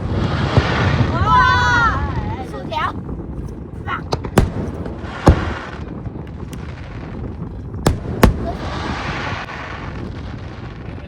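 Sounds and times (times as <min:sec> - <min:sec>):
faint fireworks pops: 0:00.0 - 0:11.0
fireworks bangs: 0:00.0 - 0:11.0
fireworks hissing crackle: 0:00.0 - 0:11.0.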